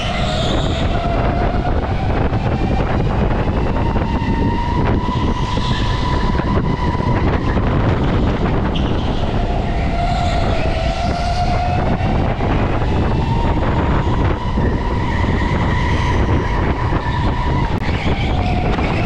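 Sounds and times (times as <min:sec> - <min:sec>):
wind noise: 0:00.0 - 0:19.0.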